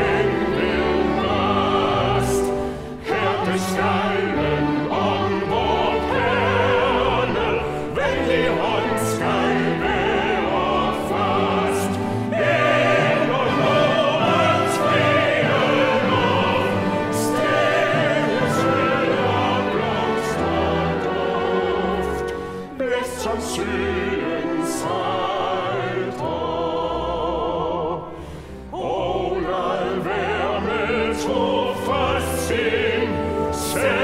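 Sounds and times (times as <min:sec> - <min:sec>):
group of voices singing opera: 0:00.0 - 0:34.0.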